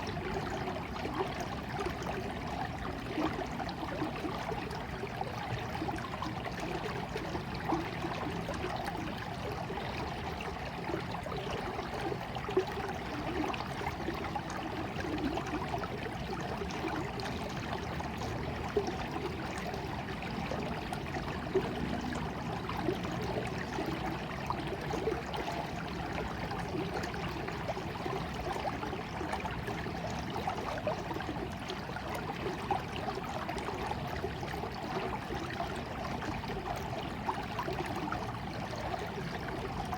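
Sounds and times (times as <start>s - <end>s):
stream water trickling: 0.0s - 39.9s
water splashes and gurgles: 0.0s - 39.9s.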